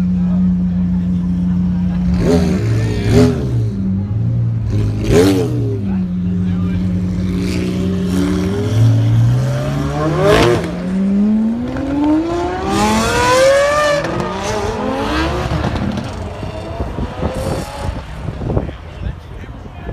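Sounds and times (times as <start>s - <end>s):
sports car engine revving: 0.0s - 19.3s.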